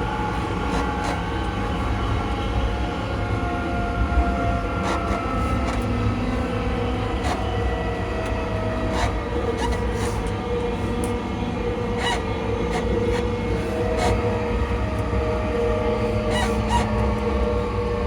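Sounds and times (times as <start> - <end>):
train low rumble: 0.0 - 18.0
train traction motor whine: 0.0 - 18.0.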